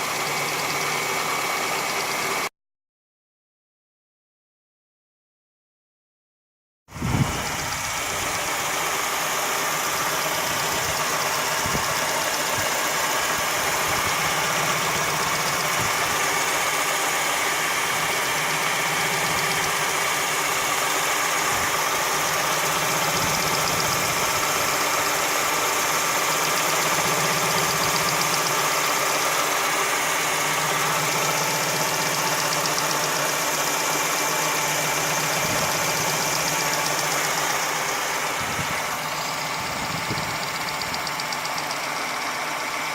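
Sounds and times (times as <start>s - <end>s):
car engine running: 0.0s - 2.5s, 7.0s - 42.9s
engine knocking: 0.0s - 2.5s, 7.0s - 42.9s.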